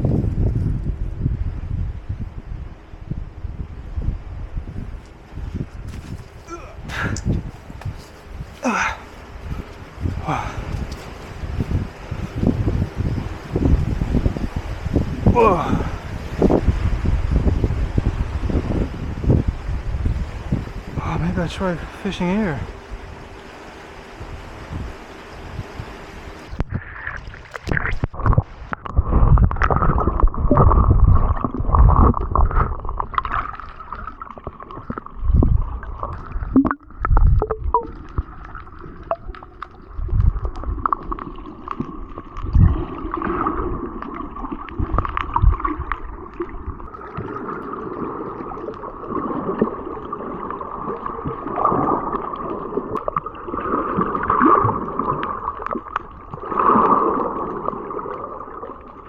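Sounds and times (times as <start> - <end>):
muffled water sloshing and gurgling: 0.0 - 59.0.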